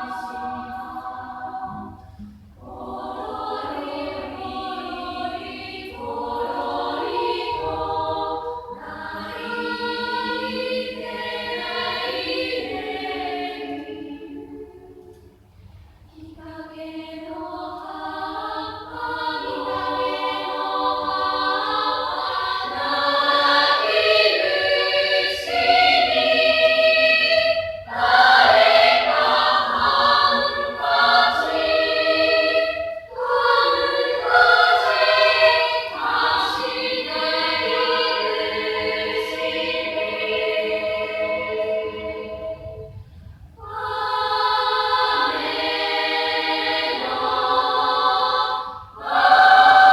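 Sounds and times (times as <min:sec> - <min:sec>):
school chorus singing: 0:00.0 - 0:15.4, 0:16.2 - 0:43.0, 0:43.6 - 0:49.9.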